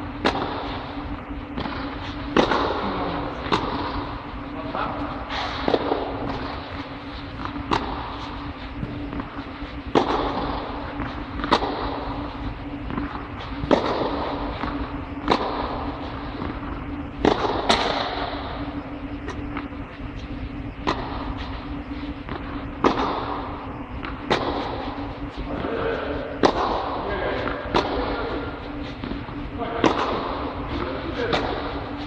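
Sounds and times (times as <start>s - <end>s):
steady low hum: 0.0s - 32.0s
tennis racket hitting ball: 0.2s - 32.0s.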